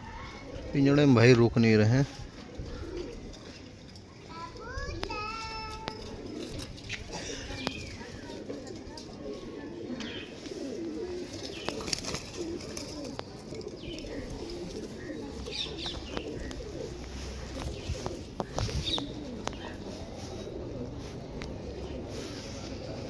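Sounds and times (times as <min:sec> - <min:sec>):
higher pigeon calls: 0:00.0 - 0:04.0, 0:05.0 - 0:23.0
pigeons cooing: 0:00.0 - 0:23.0.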